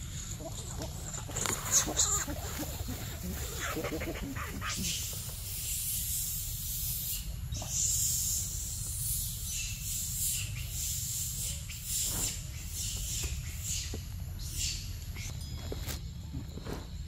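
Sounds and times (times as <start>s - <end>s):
constant low rumble: 0.0s - 17.0s
insects buzzing: 0.0s - 17.0s.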